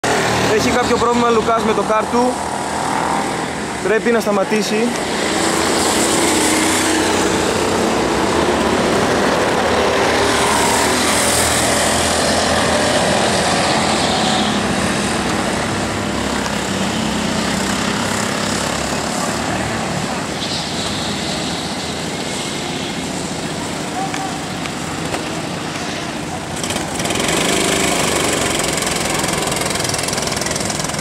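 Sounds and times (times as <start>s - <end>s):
go-kart engines droning: 0.0s - 31.0s.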